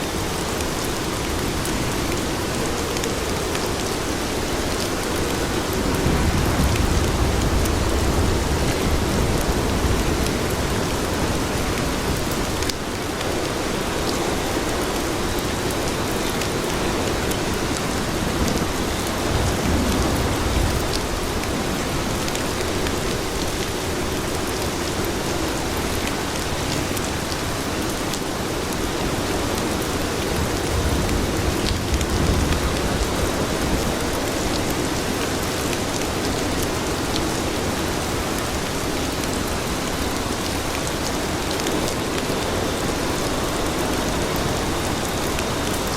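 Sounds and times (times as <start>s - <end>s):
rain on hard surfaces: 0.0s - 45.9s.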